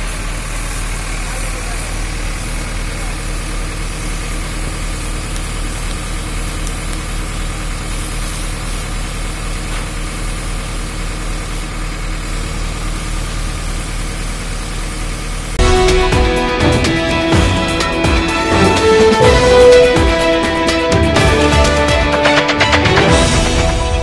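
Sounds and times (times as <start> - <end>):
diesel excavator engine idling: 0.0 - 24.0.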